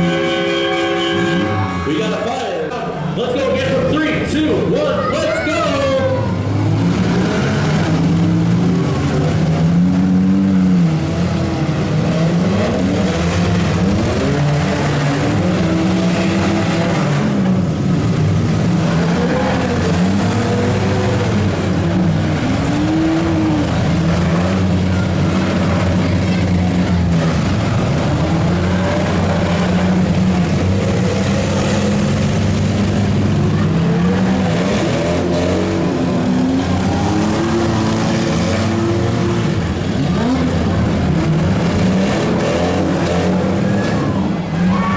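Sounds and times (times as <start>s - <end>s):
vehicle engines revving: 0.0s - 44.9s.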